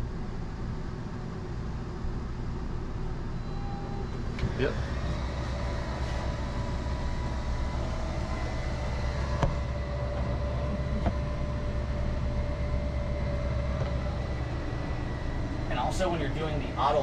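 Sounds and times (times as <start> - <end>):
low hum: 0.0 - 17.0
motor whine: 3.0 - 17.0.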